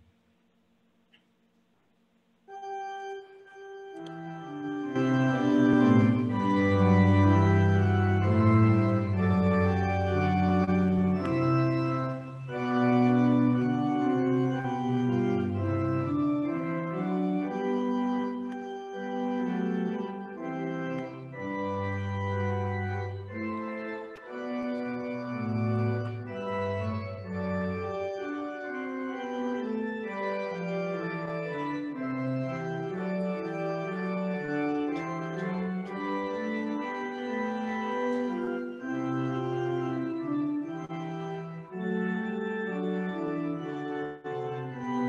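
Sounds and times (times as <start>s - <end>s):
organ playing sustained chords: 2.4s - 45.0s.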